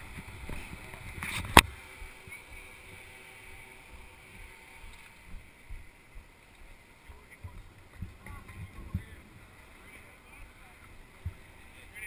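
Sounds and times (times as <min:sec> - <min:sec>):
low uneven microphone rumble: 0:00.0 - 0:12.0.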